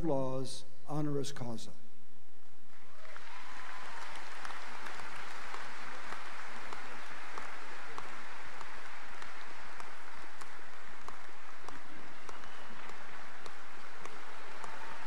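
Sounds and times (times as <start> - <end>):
audience applauding: 2.8 - 15.0.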